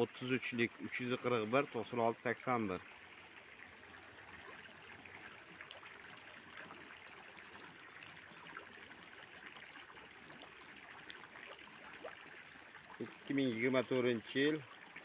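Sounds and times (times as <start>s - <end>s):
small water splashes: 0.0s - 15.0s
water trickling: 0.0s - 15.0s.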